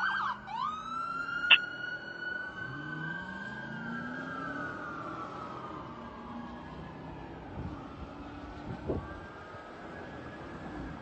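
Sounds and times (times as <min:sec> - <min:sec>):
fire engine siren: 0:00.0 - 0:11.0.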